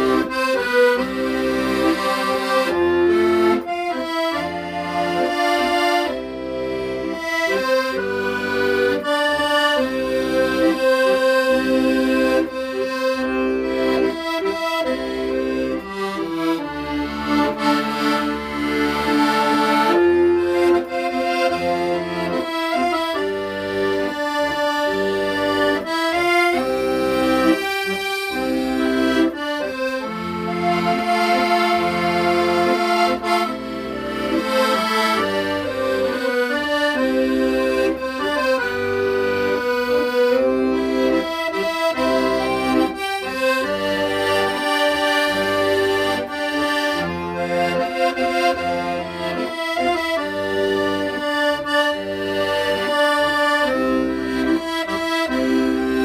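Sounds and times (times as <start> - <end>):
accordion ballad melody: 0.0 - 56.0.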